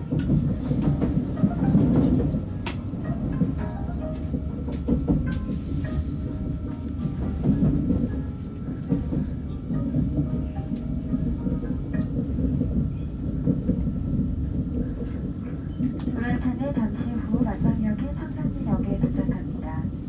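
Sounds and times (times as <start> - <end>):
train wheel clicks: 0.0 - 19.6
train cabin low rumble: 0.0 - 20.0.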